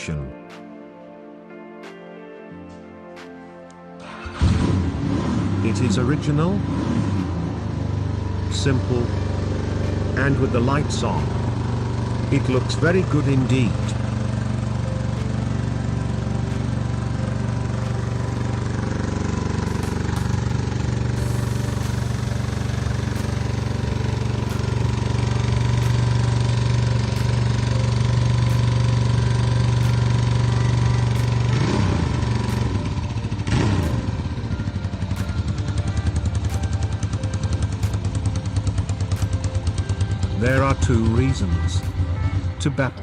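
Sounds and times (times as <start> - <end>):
motorcycle engine revving: 4.0 - 42.8.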